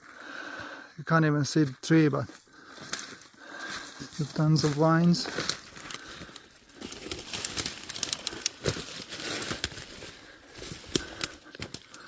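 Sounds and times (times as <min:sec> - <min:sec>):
twigs and leaves snapping underfoot: 0:02.3 - 0:12.0.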